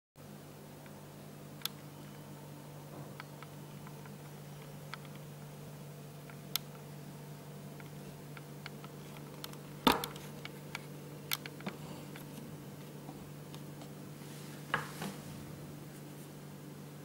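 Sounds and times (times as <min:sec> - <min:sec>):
steady low hum: 0:00.2 - 0:17.0.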